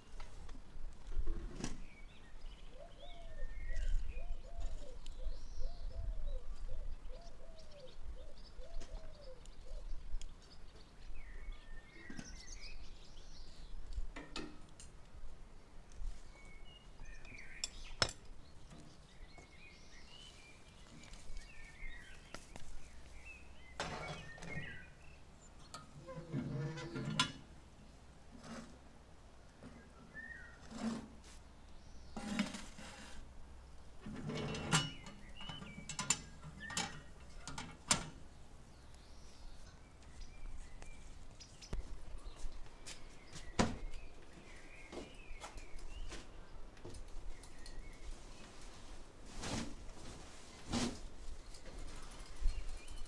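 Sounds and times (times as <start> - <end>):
small birds chirping: 1.2 - 53.0.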